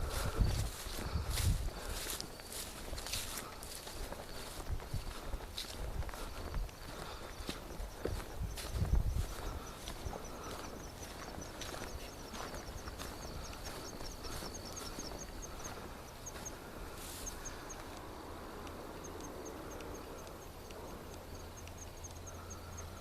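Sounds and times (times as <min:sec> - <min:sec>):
footsteps on forest trail: 0:00.0 - 0:21.8.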